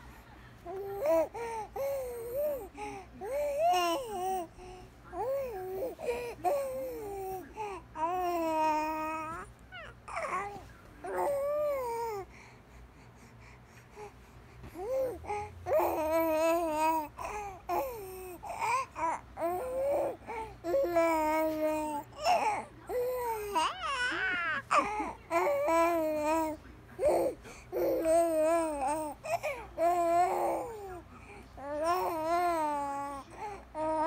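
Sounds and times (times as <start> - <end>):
infant cooing and babbling: 0.7 - 12.5, 13.9 - 34.0.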